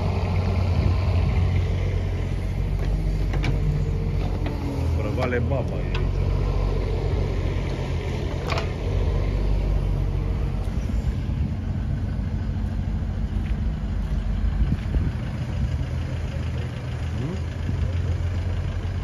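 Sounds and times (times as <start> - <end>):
diesel truck idling: 0.0 - 19.0
mini excavator engine running: 0.0 - 19.0.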